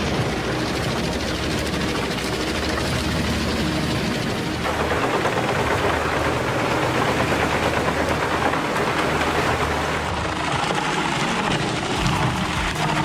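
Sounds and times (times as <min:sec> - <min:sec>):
heavy machine engine: 0:00.0 - 0:13.0
wood chipper engine drone: 0:00.0 - 0:13.0.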